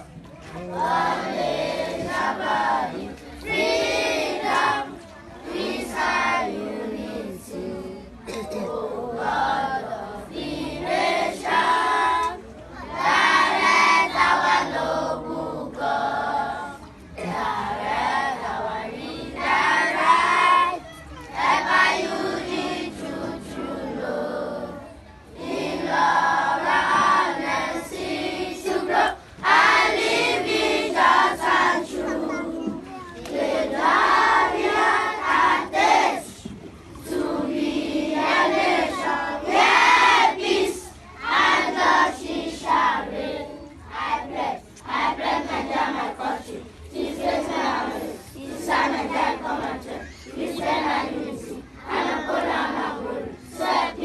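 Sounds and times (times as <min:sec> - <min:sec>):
children singing and chanting: 0:00.0 - 0:54.0.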